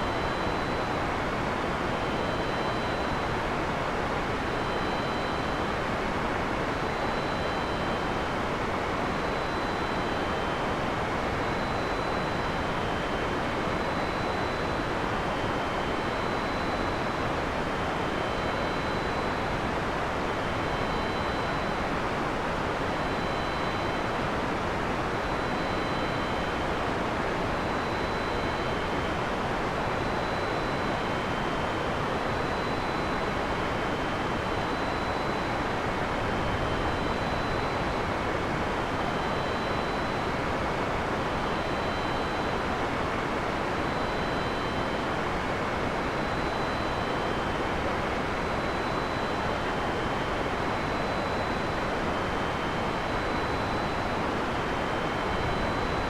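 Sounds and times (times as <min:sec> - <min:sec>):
faint high-pitched tones: 0:00.0 - 0:56.0.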